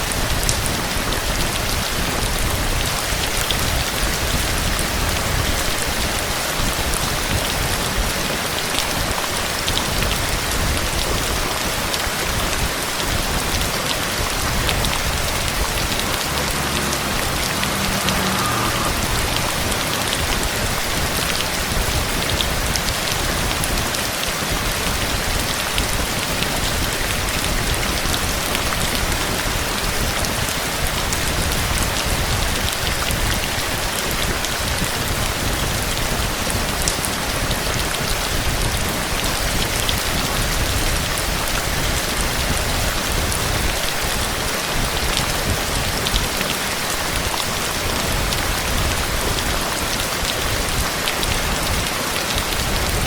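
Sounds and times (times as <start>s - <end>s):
raindrops ticking on a surface: 0.0s - 53.0s
steady rain falling: 0.0s - 53.0s.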